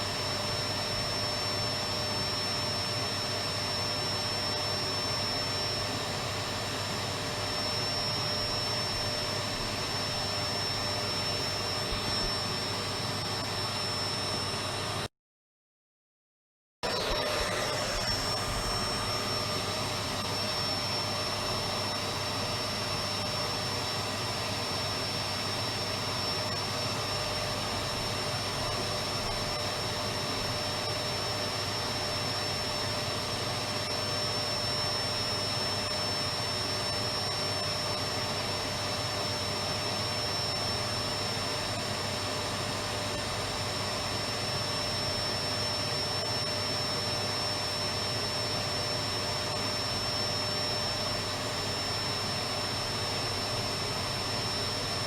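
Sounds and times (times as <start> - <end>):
vacuum cleaner running: 0.0 - 15.1, 16.8 - 55.0.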